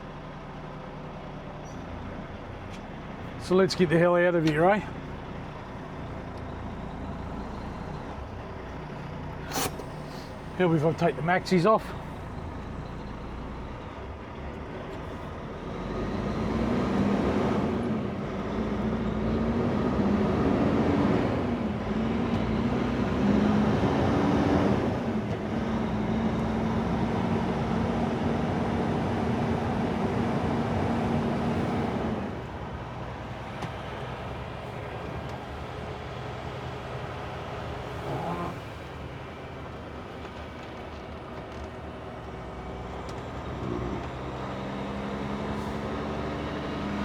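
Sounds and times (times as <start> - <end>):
truck diesel engine: 0.0 - 47.0.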